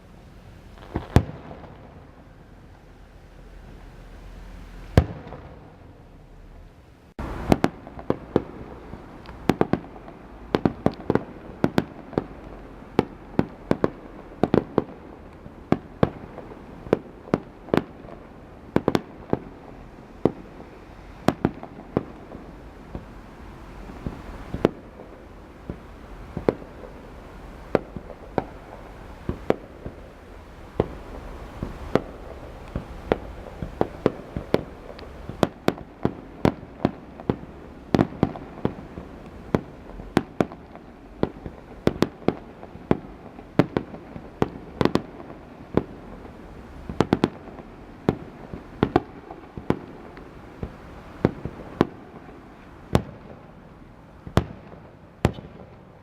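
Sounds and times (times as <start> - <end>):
fireworks bangs: 0.0 - 6.2, 7.2 - 56.0.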